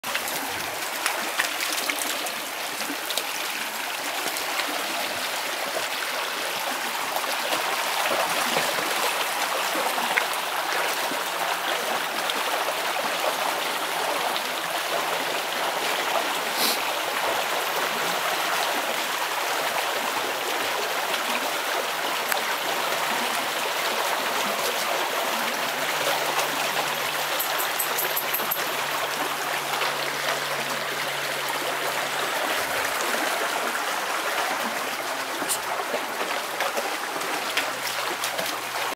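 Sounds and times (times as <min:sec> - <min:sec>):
creek water rushing: 0:00.0 - 0:38.9
dogs wading through water: 0:00.0 - 0:38.9.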